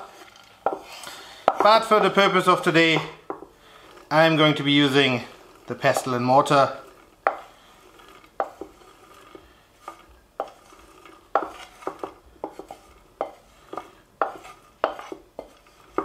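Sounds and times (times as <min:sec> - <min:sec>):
wooden spatula scraping a frying pan: 0:00.0 - 0:16.0.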